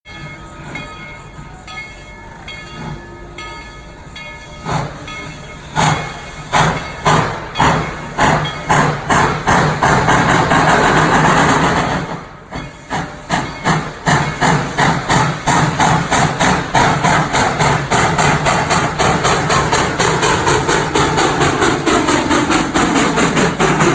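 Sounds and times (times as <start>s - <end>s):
steam locomotive exhaust chuffs: 0.1s - 23.9s
steam hissing: 4.6s - 23.9s.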